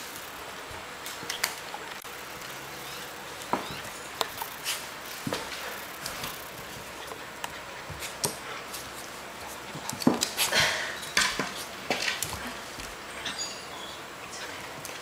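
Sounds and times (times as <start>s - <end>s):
animals scuffling: 0.0s - 15.0s.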